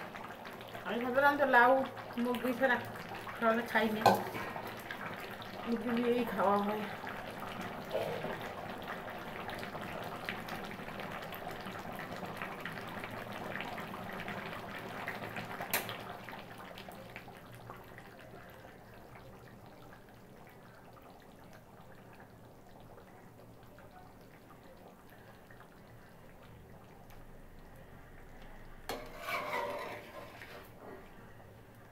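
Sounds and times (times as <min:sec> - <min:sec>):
curry bubbling in a pan: 0:00.0 - 0:31.9.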